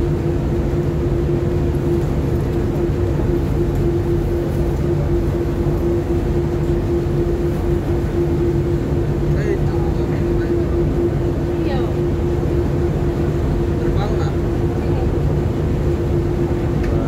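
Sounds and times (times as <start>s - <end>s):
ship engine drone: 0.0s - 17.0s
wind and wake rumble: 0.0s - 17.0s.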